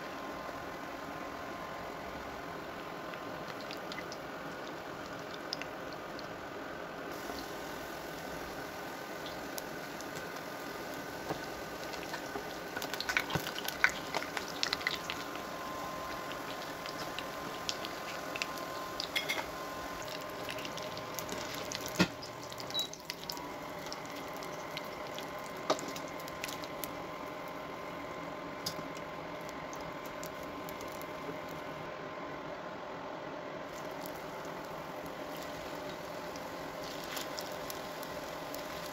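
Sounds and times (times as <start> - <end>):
food sizzling in oil: 0.0 - 31.6, 33.7 - 38.9.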